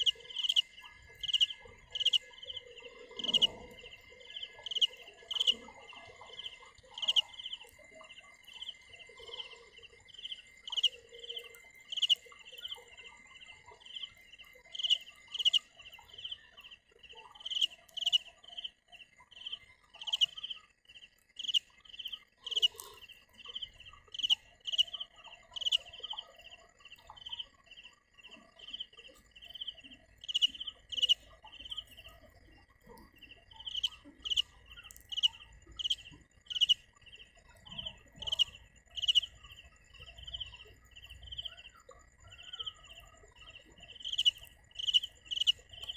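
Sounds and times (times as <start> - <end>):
cricket chirping: 0.0 - 45.9.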